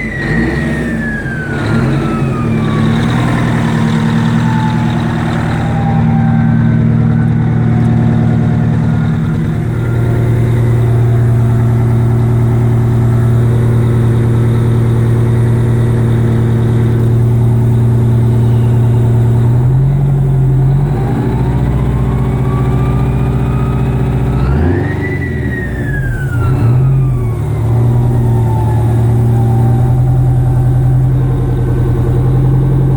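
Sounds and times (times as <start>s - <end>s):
diesel engine running hard: 0.0s - 32.9s
turbocharger whine: 0.0s - 32.9s.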